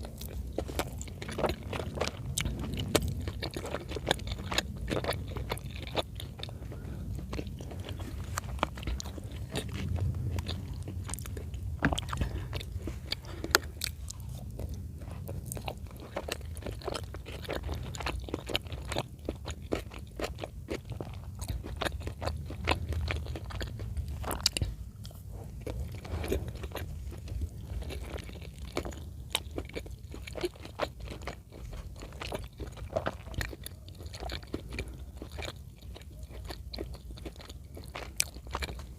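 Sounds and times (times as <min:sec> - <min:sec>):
low steady hum: 0:00.0 - 0:38.9
wet chewing: 0:00.0 - 0:38.9.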